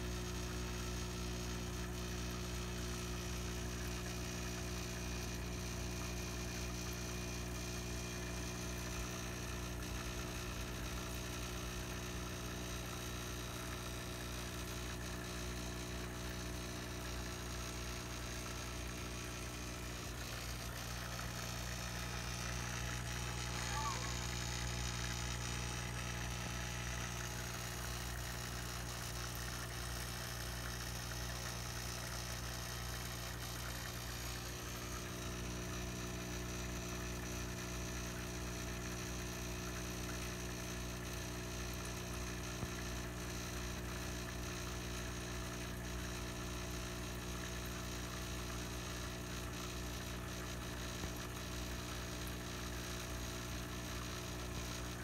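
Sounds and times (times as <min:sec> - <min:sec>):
aquarium pump humming: 0:00.0 - 0:55.0.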